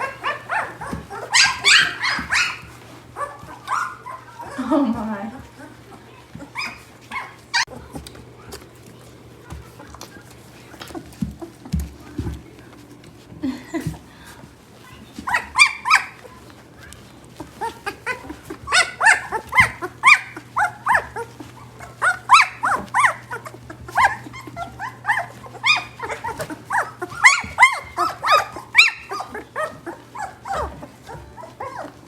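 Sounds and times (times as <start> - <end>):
puppies whining and squealing: 0.0 - 32.0.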